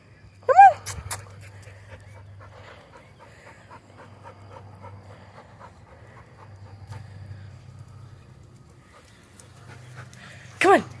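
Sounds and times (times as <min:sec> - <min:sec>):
dog panting: 0:01.0 - 0:11.0.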